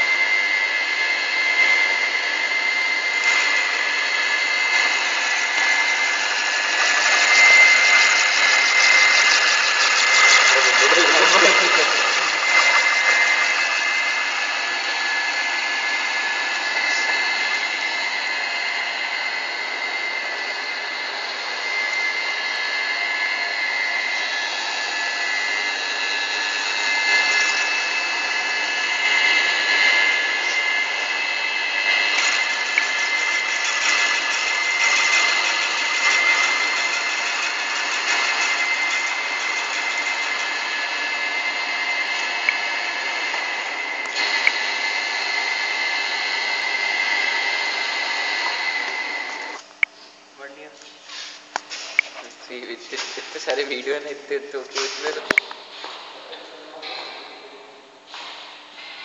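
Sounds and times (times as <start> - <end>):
lathe whining: 0.0 - 49.8.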